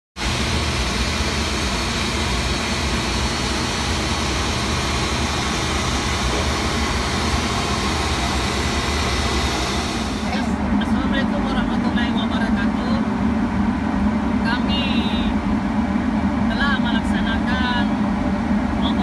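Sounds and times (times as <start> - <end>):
engine room machinery drone: 0.2 - 19.0.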